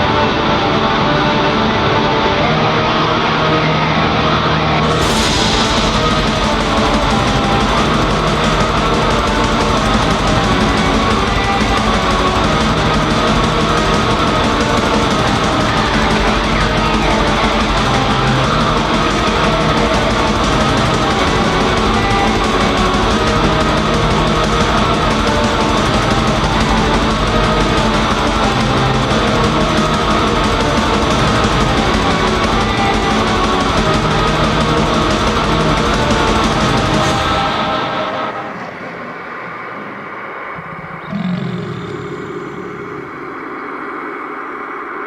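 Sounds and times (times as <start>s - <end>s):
black metal music: 0.0s - 38.6s.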